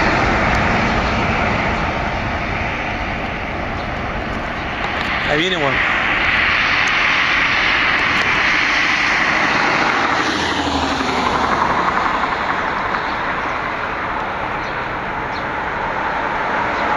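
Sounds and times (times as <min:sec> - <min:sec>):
jet airliner engines roaring: 0:00.0 - 0:16.9.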